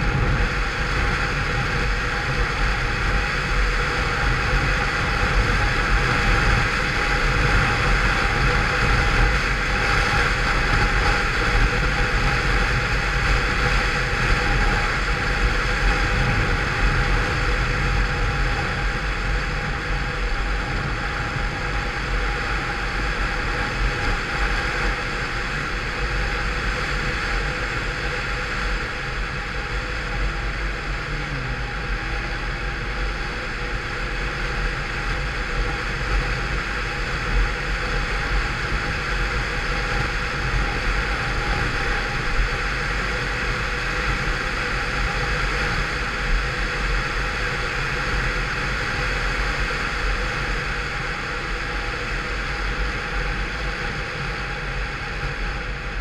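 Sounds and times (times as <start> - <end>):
scooter engine running: 0.0 - 56.0
wind rush and buffeting: 0.0 - 56.0.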